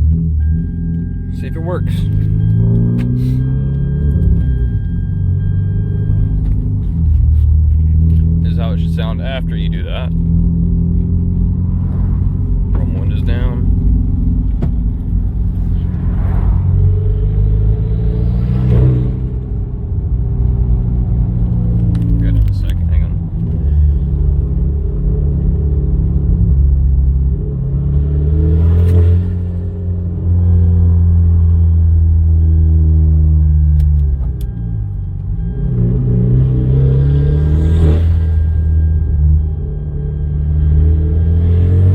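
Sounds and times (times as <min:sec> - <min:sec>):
turbocharged car engine pulling: 0:00.0 - 0:41.9.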